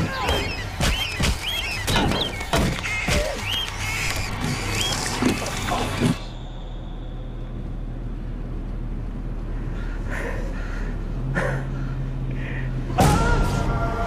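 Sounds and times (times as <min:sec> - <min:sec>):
car engine drone: 0:00.0 - 0:14.0
road noise inside car: 0:02.7 - 0:14.0.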